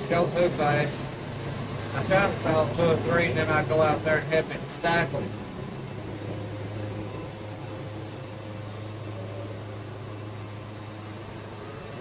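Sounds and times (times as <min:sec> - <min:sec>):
band sawmill humming: 0:00.0 - 0:12.0.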